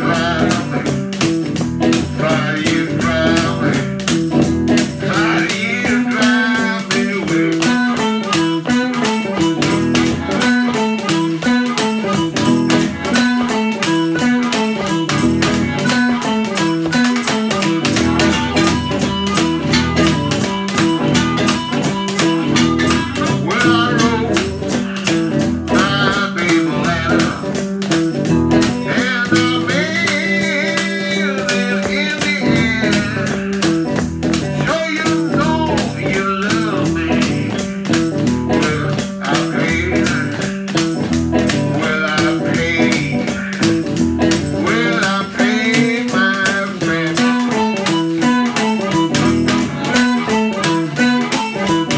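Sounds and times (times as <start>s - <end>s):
guitar: 0.0s - 51.9s
harmonica lead: 0.0s - 51.9s
washboard beat: 0.0s - 51.9s.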